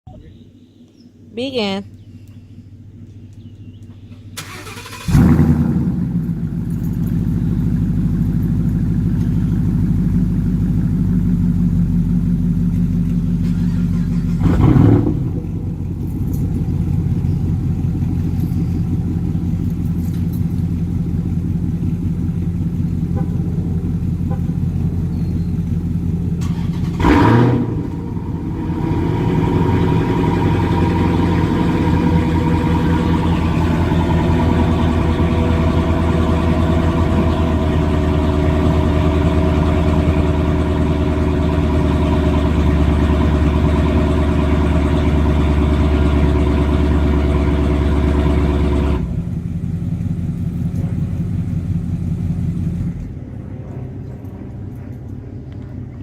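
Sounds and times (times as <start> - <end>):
car engine fast idle: 4.0 - 53.0
car engine cold-starting: 4.0 - 53.2.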